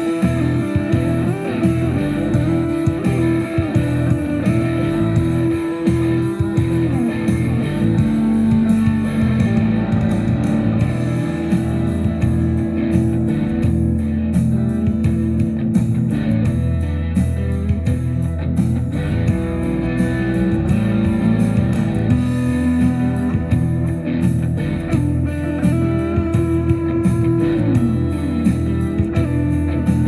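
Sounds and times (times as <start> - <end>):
guitar music with steady beat: 0.0 - 30.0.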